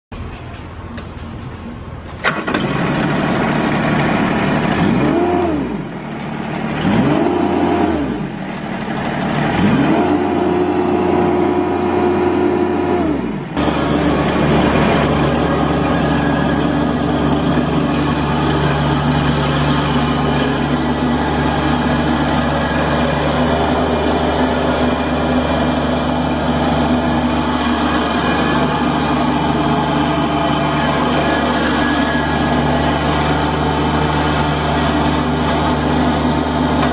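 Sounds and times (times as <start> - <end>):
diesel engine revving: 1.6 - 36.9.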